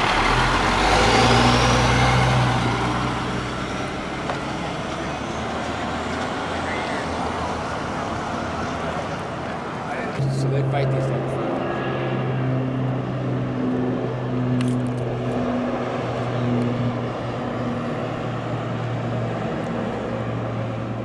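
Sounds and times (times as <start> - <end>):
truck engine drone: 0.0 - 21.0
tyre and traffic noise: 0.0 - 21.0.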